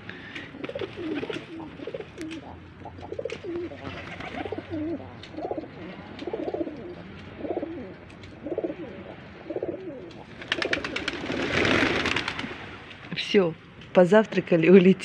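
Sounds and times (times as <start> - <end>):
pigeons cooing: 0.0 - 12.6.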